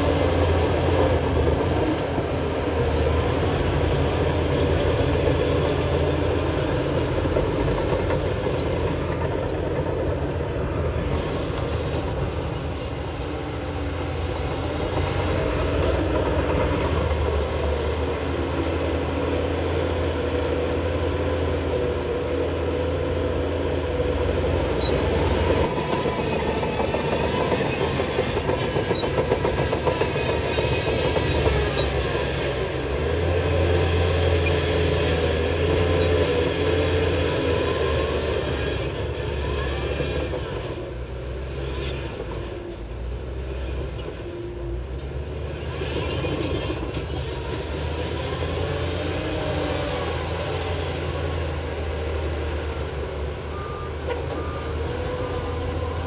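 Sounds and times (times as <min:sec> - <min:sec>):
steel tracks clattering: 0:00.0 - 0:50.9
diesel engine running under load: 0:00.0 - 0:56.0.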